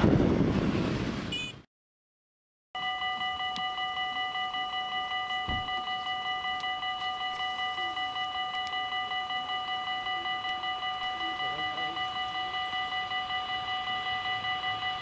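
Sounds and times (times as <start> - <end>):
level crossing warning bell: 2.8 - 15.0.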